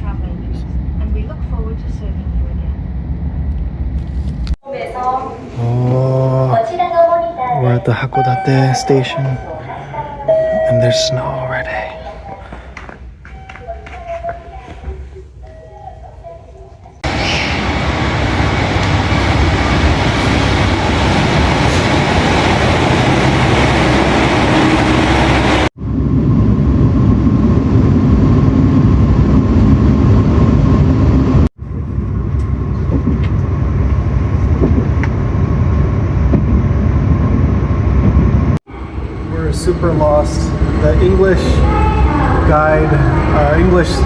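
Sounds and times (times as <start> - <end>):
train rumbling: 0.0 - 44.0.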